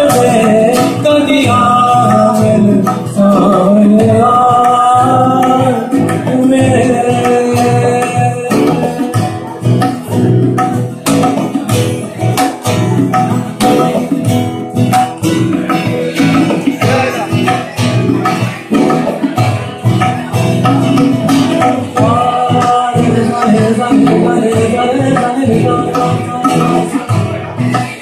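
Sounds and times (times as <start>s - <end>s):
man singing: 0.0s - 12.5s, 15.3s - 28.0s
acoustic guitars strumming: 0.0s - 28.0s.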